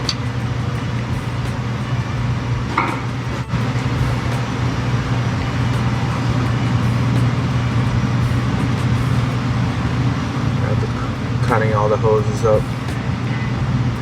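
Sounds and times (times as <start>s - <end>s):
constant noisy rush: 0.0s - 14.0s
steady low hum: 0.0s - 14.0s.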